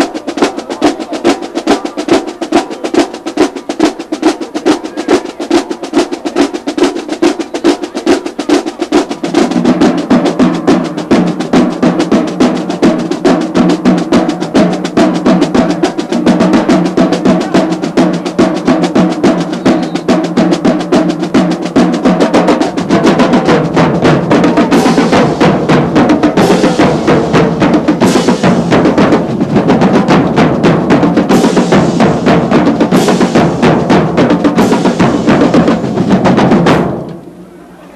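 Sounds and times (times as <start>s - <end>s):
snare and bass drums playing: 0.0s - 37.4s.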